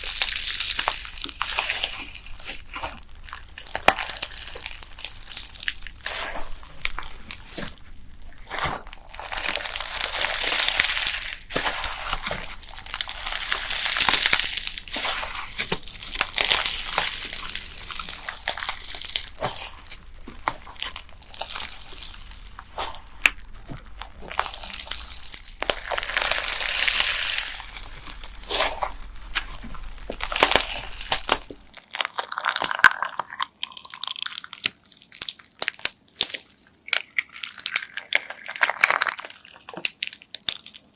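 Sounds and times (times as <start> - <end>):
bead-filled slime squished by hand: 0.0 - 40.9.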